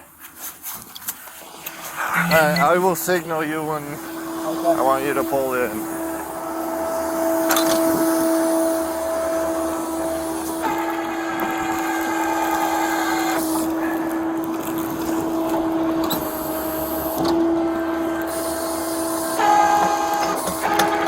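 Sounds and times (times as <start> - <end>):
hydraulic winch whining: 1.2 - 21.0.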